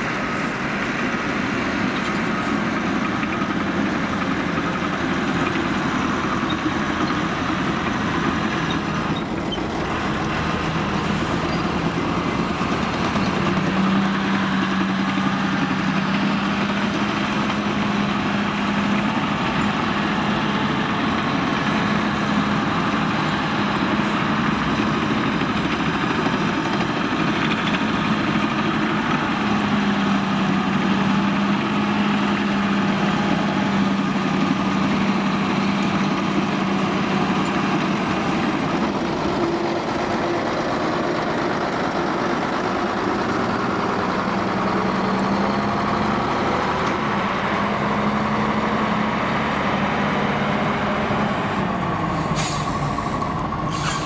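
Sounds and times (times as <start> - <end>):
diesel engine of bulldozer: 0.0 - 54.0.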